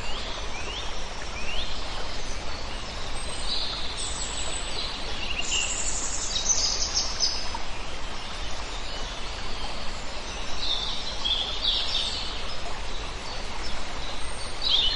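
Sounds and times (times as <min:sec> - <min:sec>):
songbirds chirping: 0:00.0 - 0:14.9
water flowing: 0:00.0 - 0:14.9.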